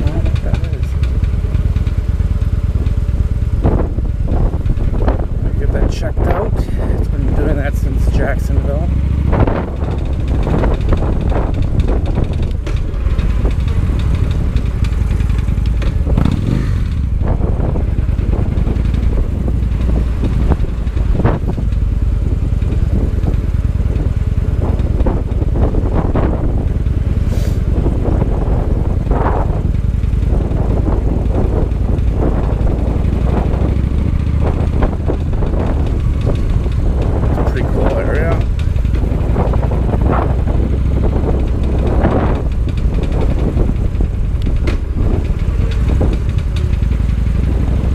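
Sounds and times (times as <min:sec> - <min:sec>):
motorcycle engine running: 0:00.0 - 0:47.9
odd mechanical engine noise: 0:00.0 - 0:47.9.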